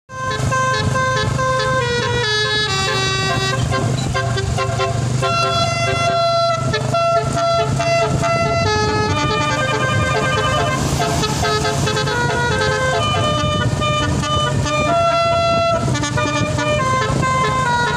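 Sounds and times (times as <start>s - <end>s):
multi-tone melody horn: 0.1s - 17.9s.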